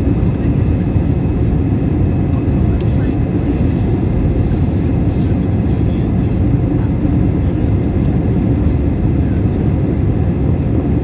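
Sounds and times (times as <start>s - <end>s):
airflow over fuselage: 0.0s - 11.0s
airplane cabin engine rumble: 0.0s - 11.0s.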